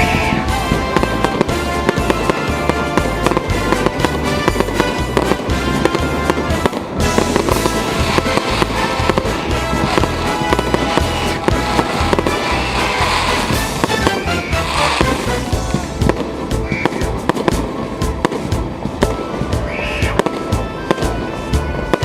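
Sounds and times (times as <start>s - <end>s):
fireworks bangs: 0.0s - 22.0s
music playing: 0.0s - 22.0s.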